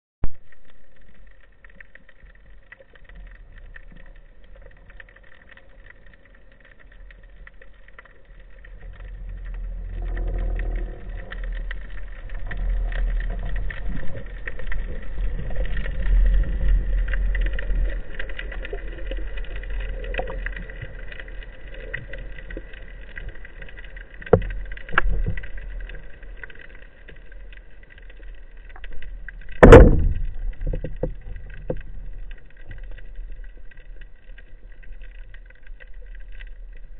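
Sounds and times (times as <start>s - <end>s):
underwater rumble: 0.2s - 36.9s.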